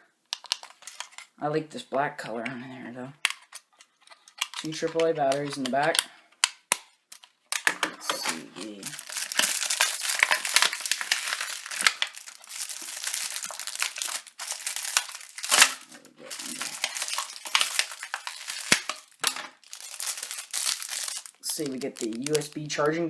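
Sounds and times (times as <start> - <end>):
packaging crinkling and rustling: 0.3 - 1.3, 3.2 - 23.0.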